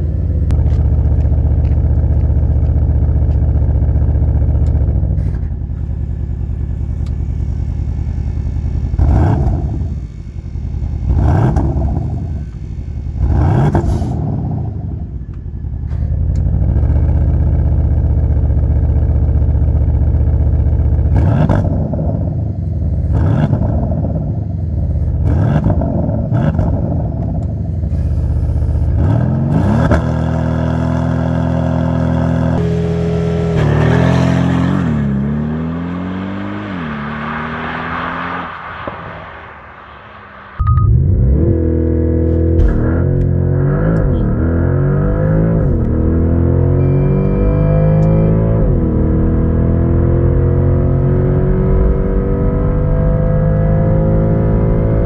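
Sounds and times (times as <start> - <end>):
car exhaust idling and revving: 0.0 - 55.0.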